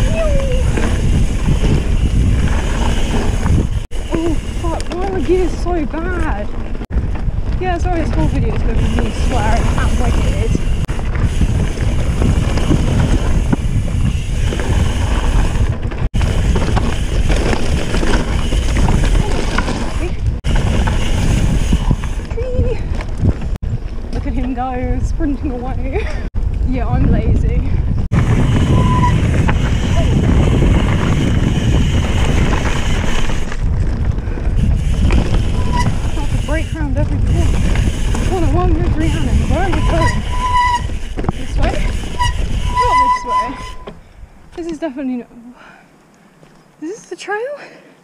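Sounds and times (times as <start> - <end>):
wind buffeting microphone: 0.0 - 45.2
bike tyres rattling on gravel: 0.0 - 46.8.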